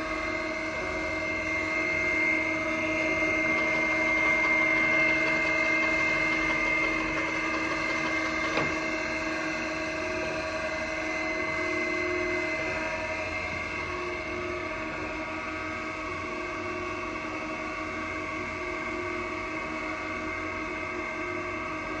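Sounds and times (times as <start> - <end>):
grinder motor whine: 0.0 - 21.9.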